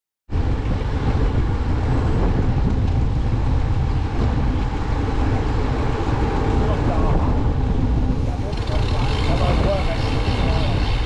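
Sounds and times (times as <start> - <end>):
wind rushing over microphone: 0.3 - 11.0.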